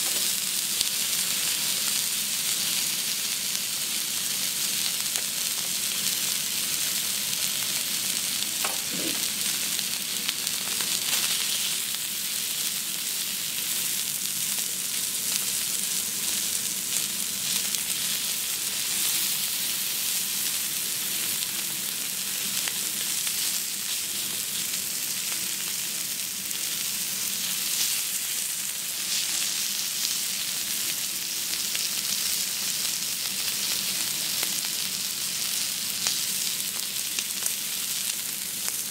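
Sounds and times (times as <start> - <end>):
steak sizzling on a griddle: 0.0 - 38.9.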